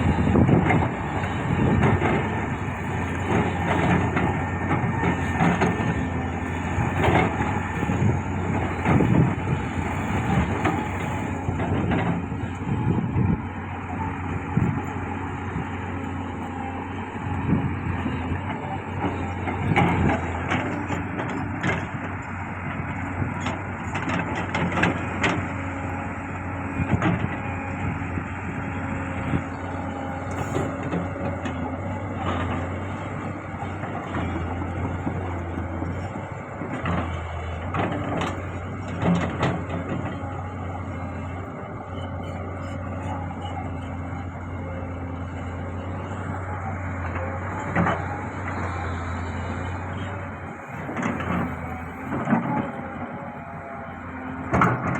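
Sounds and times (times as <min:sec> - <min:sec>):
diesel machinery running: 0:00.0 - 0:54.9.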